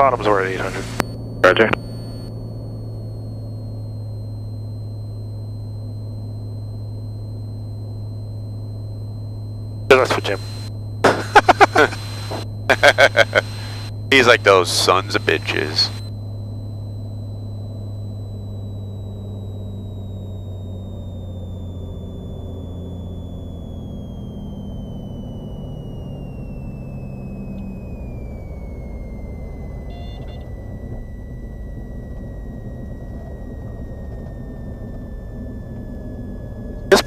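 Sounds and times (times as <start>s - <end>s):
piston engine and propeller droning: 0.0s - 37.0s
thin high whine falling in pitch: 0.0s - 37.0s.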